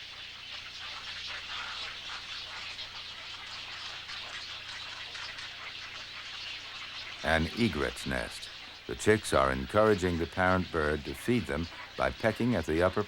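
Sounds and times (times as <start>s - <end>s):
colony of birds chattering: 0.0s - 13.0s.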